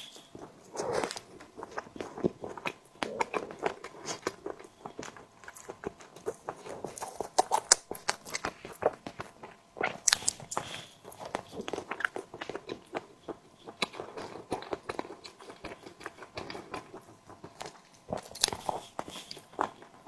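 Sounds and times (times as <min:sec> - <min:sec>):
chewing and wet mouth sounds: 0:00.0 - 0:20.0.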